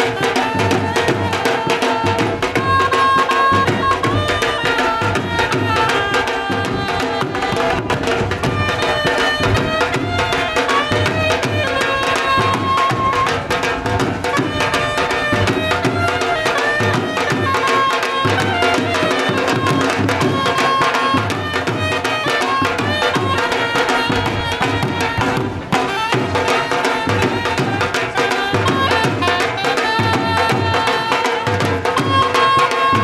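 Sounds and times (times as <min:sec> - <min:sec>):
dhol drums beating fast rhythm: 0:00.0 - 0:33.0.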